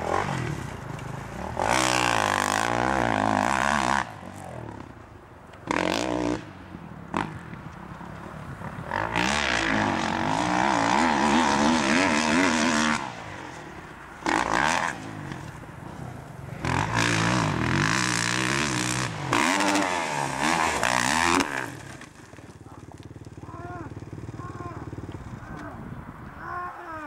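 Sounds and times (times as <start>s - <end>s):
motocross bike engine revving: 0.0s - 5.0s, 5.6s - 6.5s, 8.7s - 25.8s.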